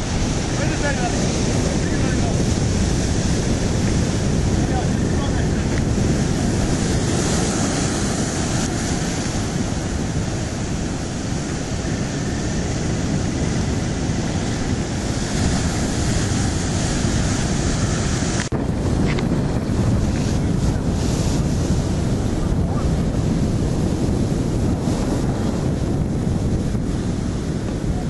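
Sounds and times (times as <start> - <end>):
surf breaking over rocks: 0.0 - 28.0
wind rumbling on microphone: 0.0 - 28.0.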